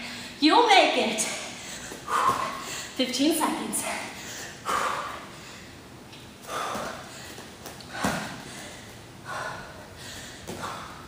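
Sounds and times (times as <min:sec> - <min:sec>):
woman breathing hard: 0:00.0 - 0:00.4, 0:01.2 - 0:03.0, 0:03.7 - 0:11.0.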